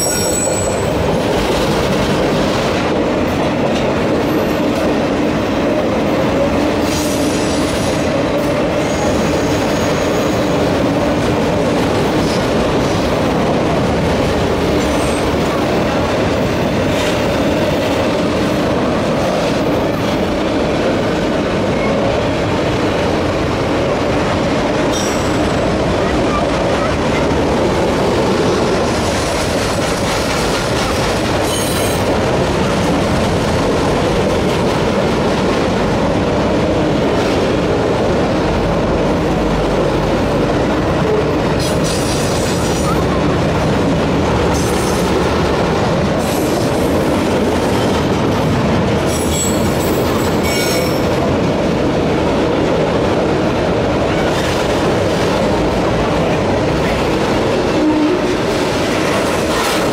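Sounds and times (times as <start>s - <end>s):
rumble of train wheels on rail: 0.0s - 59.9s.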